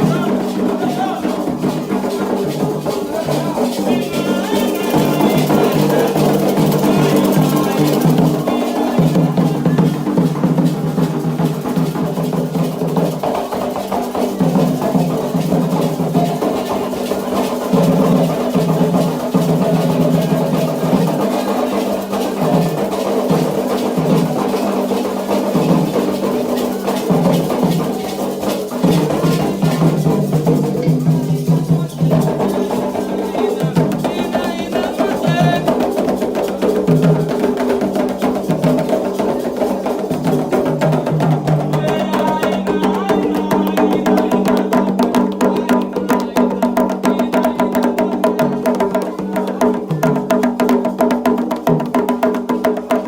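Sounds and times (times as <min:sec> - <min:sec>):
hand drums playing rhythm: 0:00.0 - 0:53.0.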